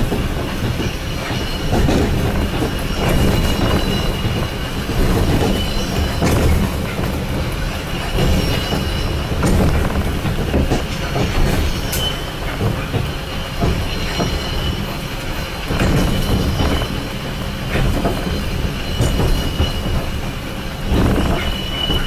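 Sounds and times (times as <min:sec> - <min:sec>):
wheels rumbling on rails: 0:00.0 - 0:22.0
faint high wheel squeal: 0:01.0 - 0:09.8, 0:11.0 - 0:22.0.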